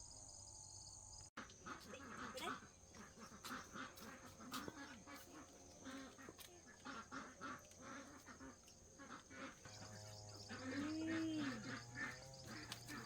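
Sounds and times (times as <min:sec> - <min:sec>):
ducks quacking: 0:01.4 - 0:13.0.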